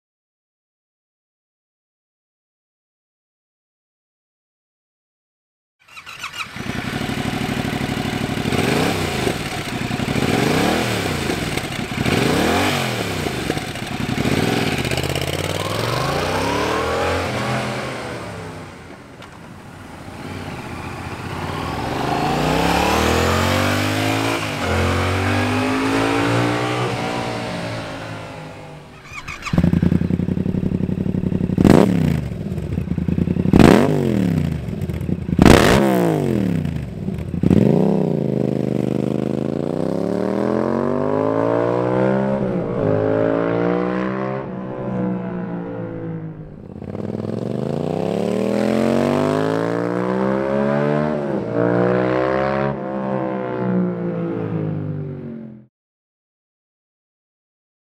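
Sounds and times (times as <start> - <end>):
motorcycle engine revving: 5.8 - 55.7.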